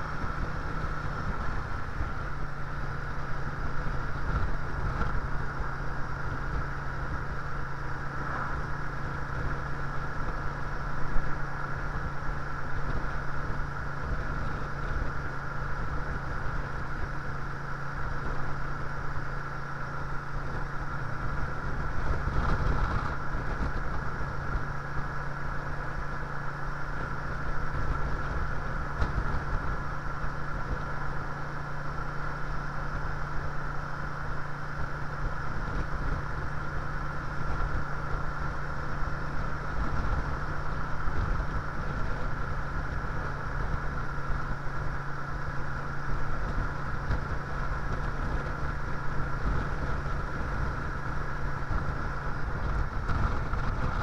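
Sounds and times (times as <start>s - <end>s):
motorcycle engine cruising: 0.0s - 54.0s
wind rumbling on microphone: 0.0s - 54.0s.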